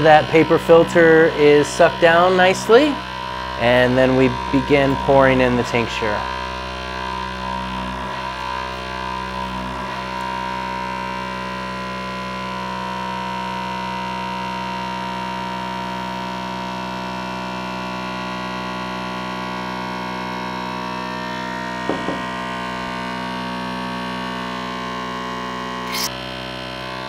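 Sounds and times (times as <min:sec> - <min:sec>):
vacuum pump humming: 0:00.0 - 0:27.0.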